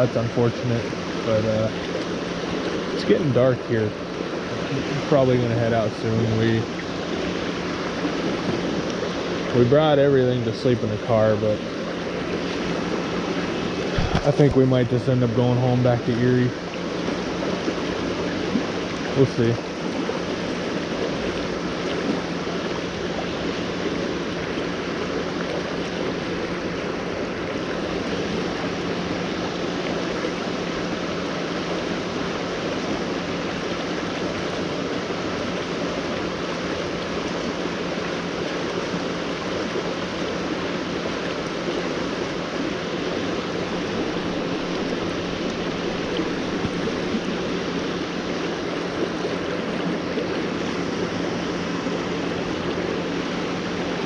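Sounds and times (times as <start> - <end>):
creek water rushing: 0.0 - 54.0
steady low hum: 0.0 - 54.0.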